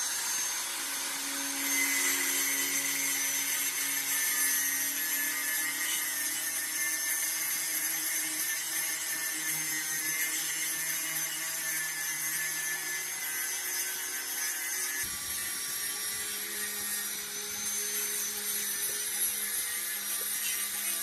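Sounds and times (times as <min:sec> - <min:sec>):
power tool high-pitched whine: 0:00.0 - 0:21.0.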